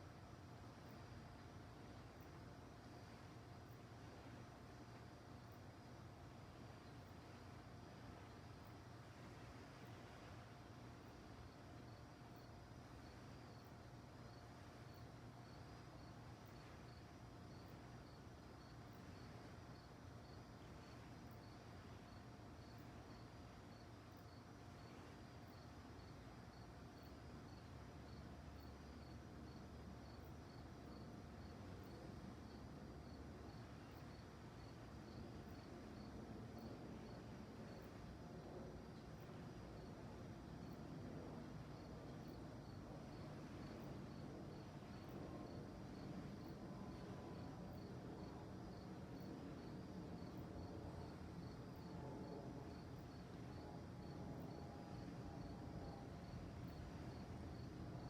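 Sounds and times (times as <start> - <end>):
crickets chirping: 0.0 - 58.0
faint low rumble: 0.0 - 58.0
low steady background hiss: 0.0 - 58.0.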